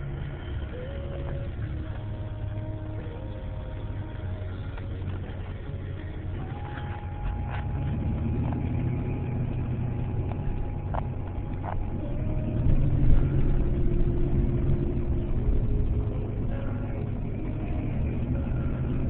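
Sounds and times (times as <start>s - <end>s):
pickup truck engine rumbling: 0.0s - 19.0s.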